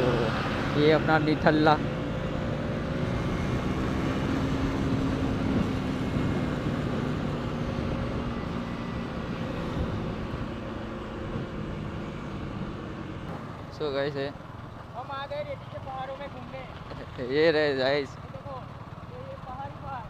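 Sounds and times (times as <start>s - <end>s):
motorcycle engine cruising: 0.0s - 20.0s
wind and road noise: 0.0s - 20.0s.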